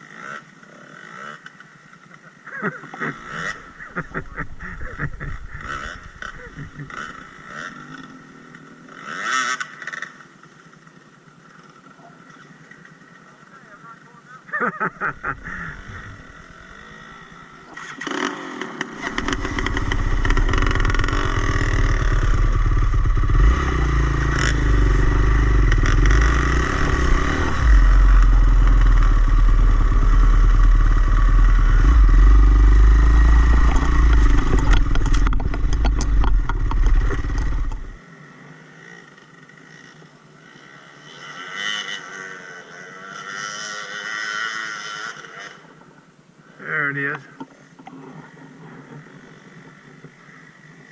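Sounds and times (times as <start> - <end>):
dirt bike engine running: 0.0 - 45.4.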